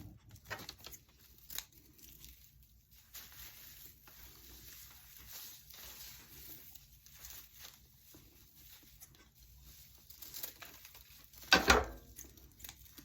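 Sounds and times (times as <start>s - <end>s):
raffia rustling: 0.6s - 13.0s.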